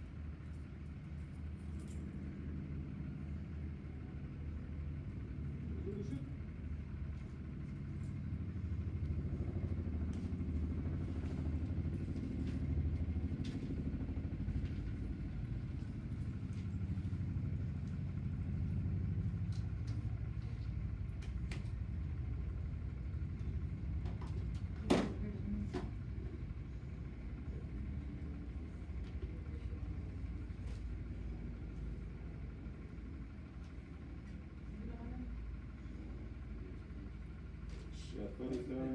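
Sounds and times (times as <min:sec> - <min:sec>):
vehicle engine rumbling: 0:00.1 - 0:38.9.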